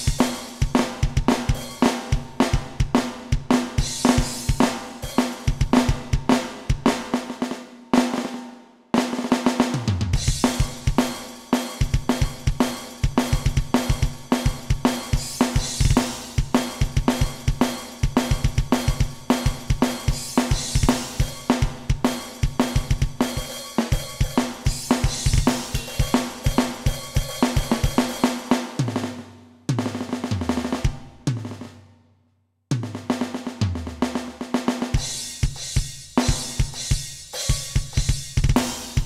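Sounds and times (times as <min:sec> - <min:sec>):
electronic drum kit groove: 0:00.0 - 0:07.4, 0:09.4 - 0:31.7, 0:32.7 - 0:39.0.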